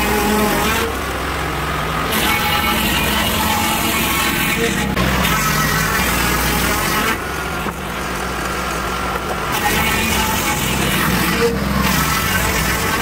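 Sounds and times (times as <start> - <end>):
sawmill cutting a log: 0.0 - 13.0.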